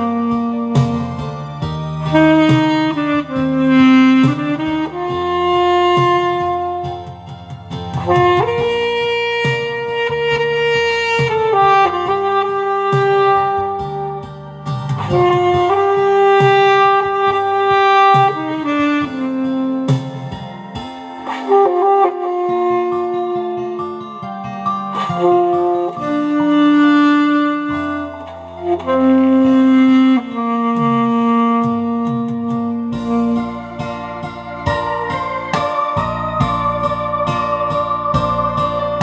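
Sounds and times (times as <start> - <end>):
alto saxophone melody: 0.0 - 39.0
backing track with bass and beat: 0.0 - 39.0.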